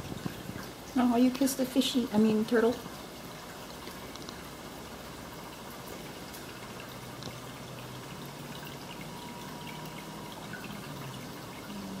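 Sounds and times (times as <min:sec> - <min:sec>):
aquarium water trickling: 0:00.0 - 0:12.0
faint low hum: 0:00.0 - 0:12.0
water drips: 0:00.0 - 0:12.0.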